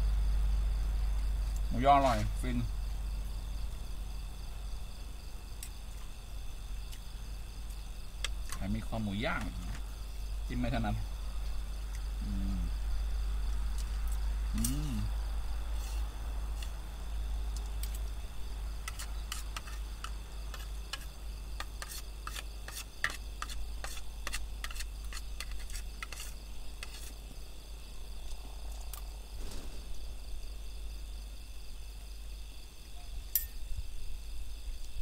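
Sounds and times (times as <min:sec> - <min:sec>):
high insect chorus: 0:00.0 - 0:35.0.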